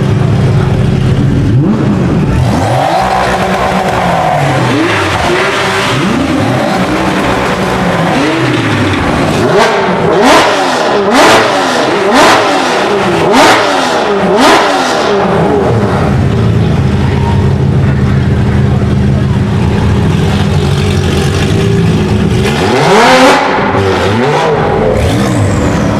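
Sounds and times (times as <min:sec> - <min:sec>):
car engine revving in tunnel: 0:00.0 - 0:25.9.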